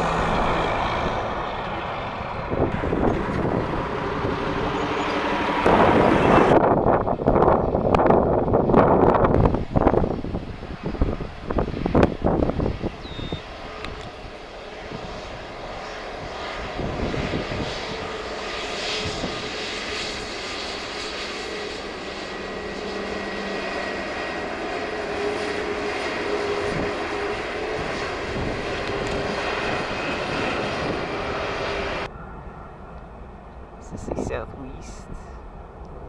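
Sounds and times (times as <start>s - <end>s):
jet engines running: 0.0s - 36.0s.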